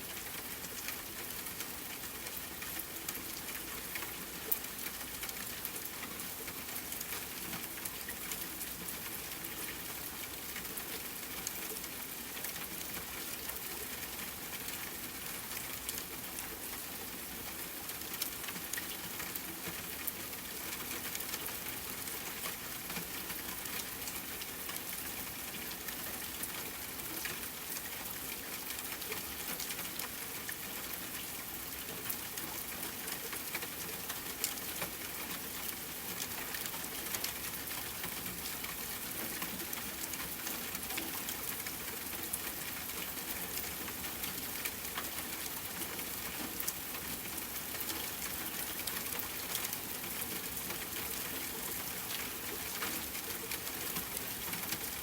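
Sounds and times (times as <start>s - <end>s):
rain falling on a tent: 0.0s - 55.0s
sharp ticks of raindrops: 0.0s - 55.0s.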